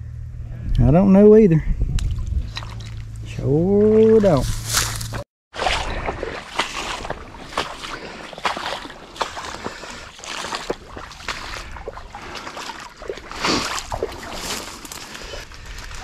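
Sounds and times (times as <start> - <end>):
footsteps splashing through water: 2.0 - 3.0, 3.8 - 16.0.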